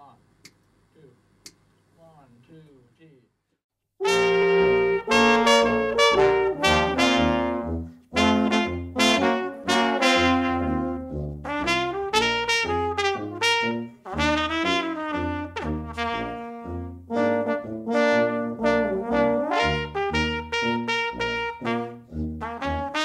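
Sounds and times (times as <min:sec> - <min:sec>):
brass quartet playing jazz: 0:04.0 - 0:23.0
tuba bass line: 0:04.0 - 0:23.0.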